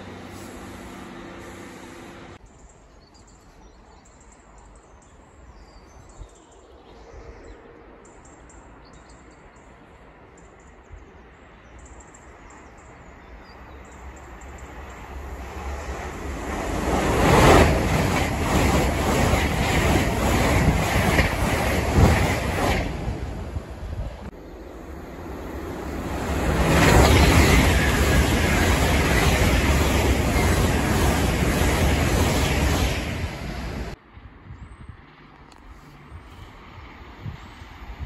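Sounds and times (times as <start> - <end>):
train passing at speed: 0.0 - 2.4, 6.6 - 34.4, 36.0 - 38.0.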